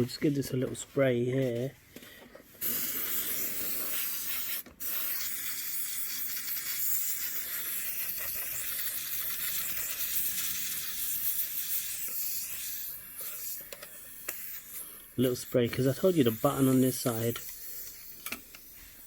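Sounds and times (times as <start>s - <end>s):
compressed air duster hissing: 2.6s - 19.0s.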